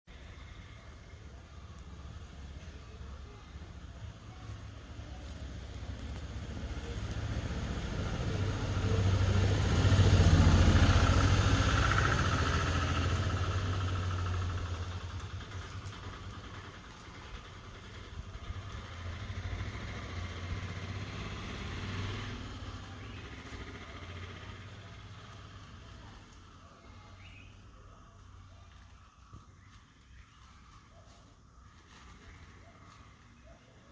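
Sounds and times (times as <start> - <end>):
vehicle engine passing by: 0.2 - 33.9.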